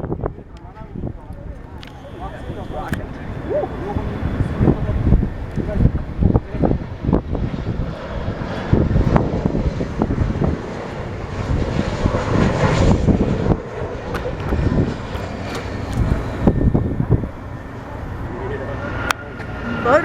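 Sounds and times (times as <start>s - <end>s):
airplane engine running: 0.0s - 20.0s
wind buffeting microphone: 0.0s - 20.0s.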